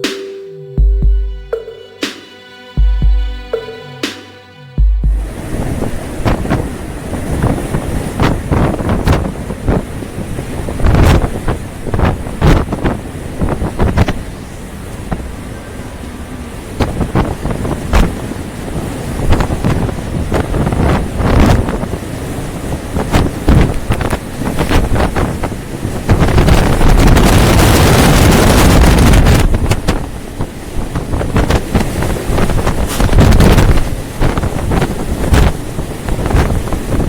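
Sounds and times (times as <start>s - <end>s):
rush of wind and water: 5.0s - 37.0s
storm wind buffeting microphone: 5.0s - 37.0s.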